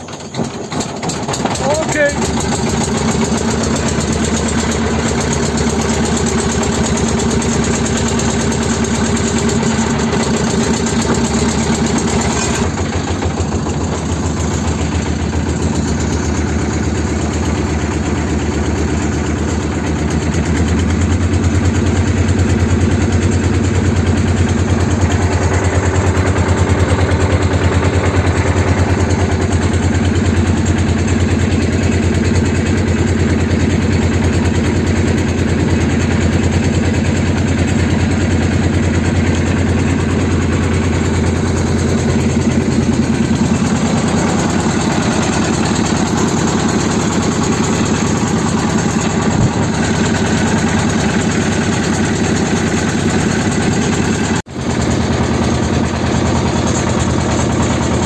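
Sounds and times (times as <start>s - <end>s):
small motorboat engine running: 0.0s - 58.0s.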